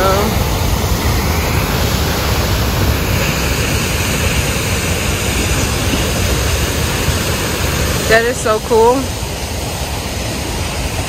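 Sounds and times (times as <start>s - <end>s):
water rushing from dam outlet: 0.0s - 11.0s.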